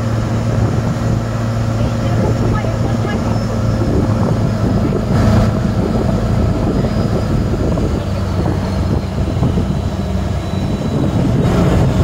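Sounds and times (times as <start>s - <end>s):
constant rushing noise: 0.0s - 12.0s
motorboat engine humming: 0.0s - 12.0s.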